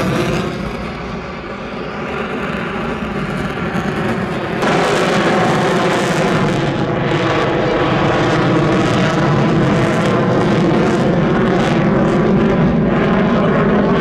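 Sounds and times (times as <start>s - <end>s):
jet flying overhead: 0.0s - 14.0s.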